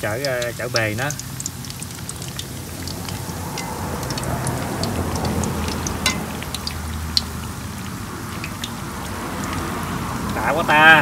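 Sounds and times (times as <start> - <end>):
frying sizzle with pops and crackles: 0.0 - 11.0.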